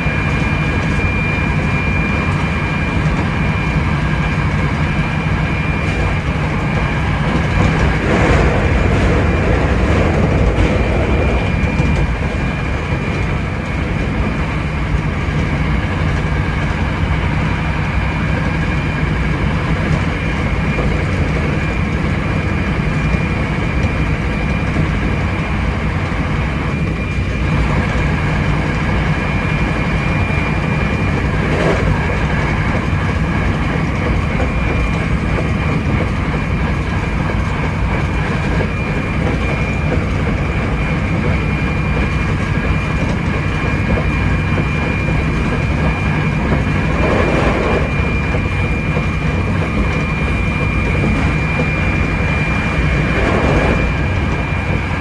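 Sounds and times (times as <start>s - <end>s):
electric train high whine: 0.0s - 55.0s
train wheels rumbling on rail: 0.0s - 55.0s.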